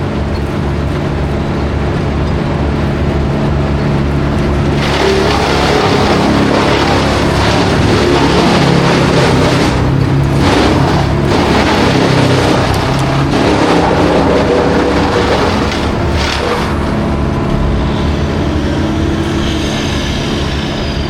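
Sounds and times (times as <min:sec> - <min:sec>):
engine running loud: 0:00.0 - 0:21.0.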